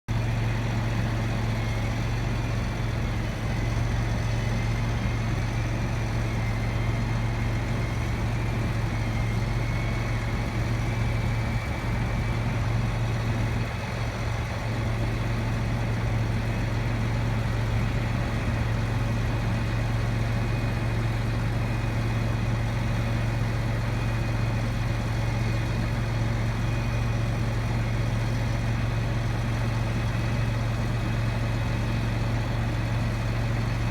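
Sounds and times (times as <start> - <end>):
heavy engine running: 0.1 - 33.9.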